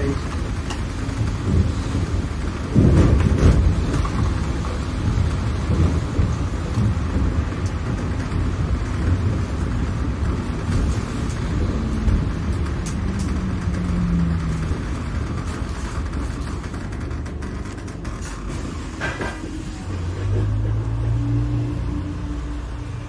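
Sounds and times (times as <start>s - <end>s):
bus engine low rumble: 0.0s - 23.0s.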